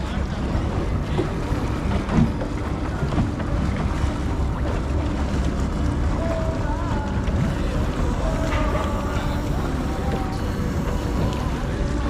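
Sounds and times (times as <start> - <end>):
motorboat engines rumbling: 0.0 - 12.0.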